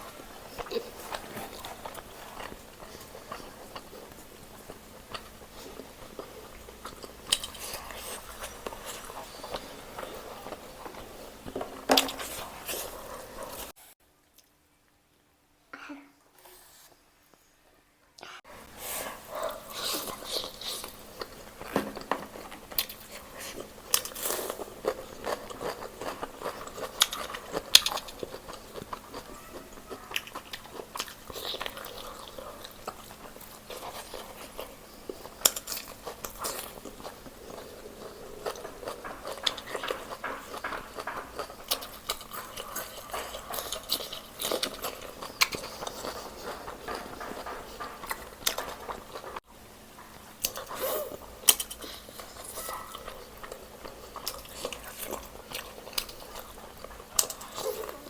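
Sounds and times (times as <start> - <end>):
chewing and biting chicken: 0.0 - 13.7, 19.1 - 49.4, 50.1 - 58.0.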